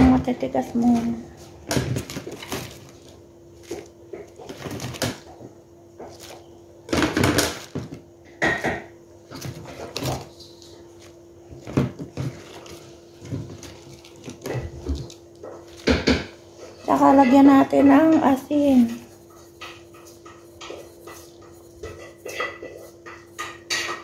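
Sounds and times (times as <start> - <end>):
kitchen clatter: 0.0 - 10.9, 11.6 - 24.0.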